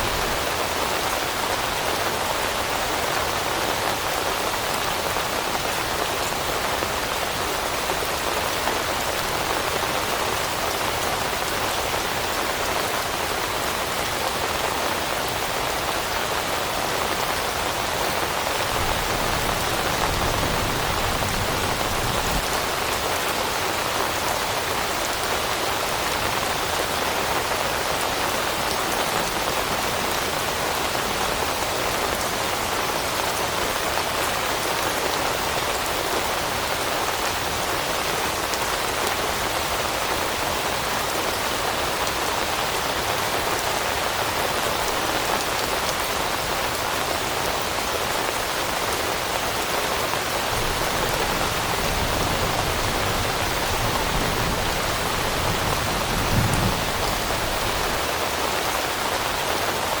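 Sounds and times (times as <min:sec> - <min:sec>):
rain falling on leaves: 0:00.0 - 1:00.0.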